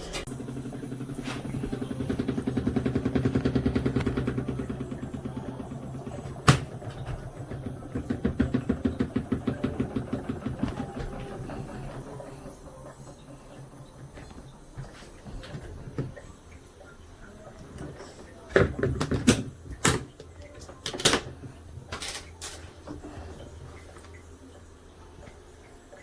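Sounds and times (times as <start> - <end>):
washing machine churning water: 0.0 - 26.0.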